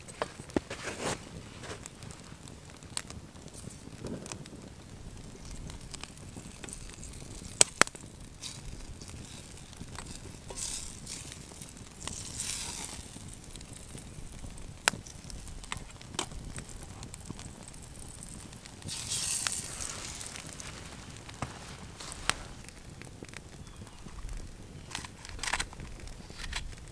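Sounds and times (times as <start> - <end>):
campfire crackling and popping: 0.0 - 26.9
butter sizzling in a frying pan: 1.2 - 26.9.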